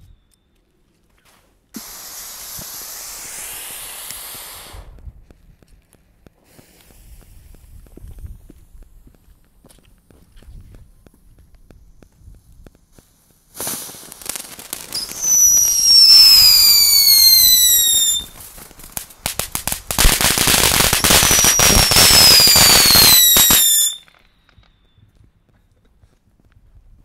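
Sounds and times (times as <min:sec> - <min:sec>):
firework fountain whistling and crackling: 0:01.7 - 0:05.2, 0:06.2 - 0:25.2.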